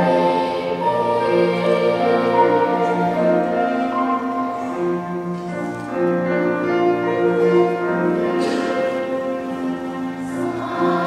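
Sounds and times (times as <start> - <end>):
cello: 0.0 - 11.0
children's choir singing: 0.0 - 11.0.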